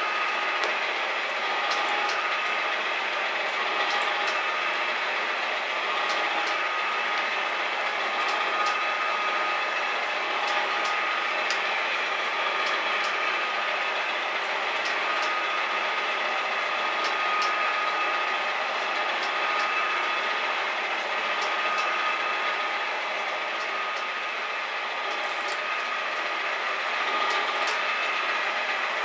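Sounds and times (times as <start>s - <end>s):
metal shaper drone and whine: 0.0s - 29.0s.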